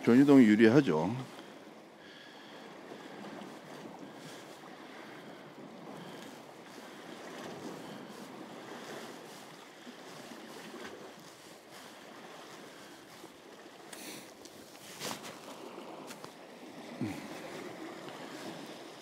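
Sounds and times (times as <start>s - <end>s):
sea waves washing against rocks: 0.0s - 19.0s.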